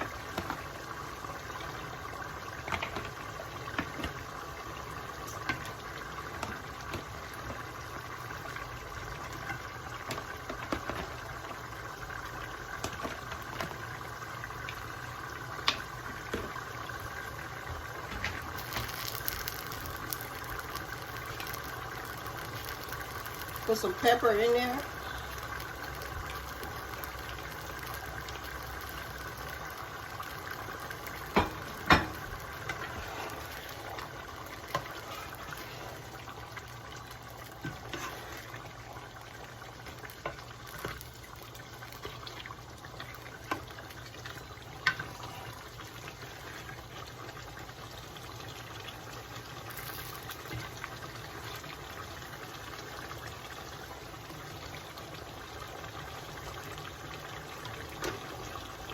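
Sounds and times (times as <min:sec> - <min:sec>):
pot bubbling and sizzling: 0:00.0 - 0:58.9.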